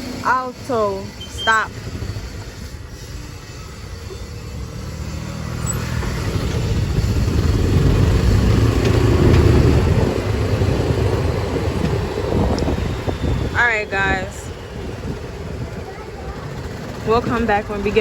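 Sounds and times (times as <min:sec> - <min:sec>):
golf cart motor rumble: 0:00.0 - 0:18.0.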